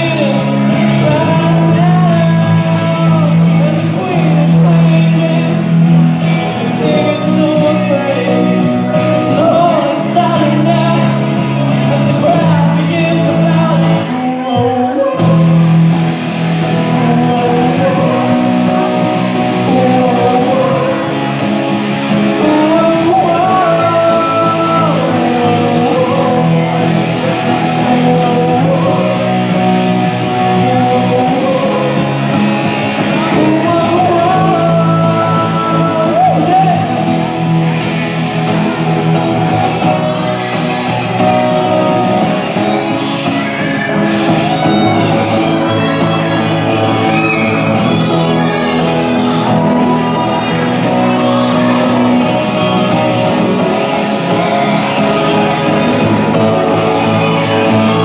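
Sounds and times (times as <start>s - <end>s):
drums: 0.0s - 58.0s
guitars: 0.0s - 58.0s
person singing: 0.0s - 58.0s.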